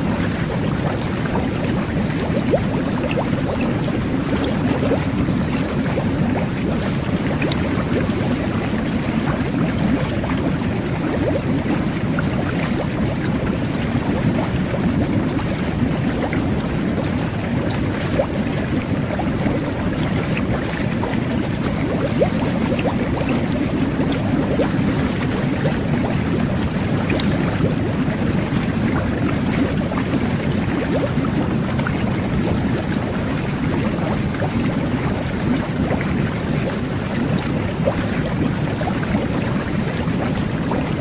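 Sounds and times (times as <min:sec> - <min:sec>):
bath jets bubbling water: 0:00.0 - 0:41.0.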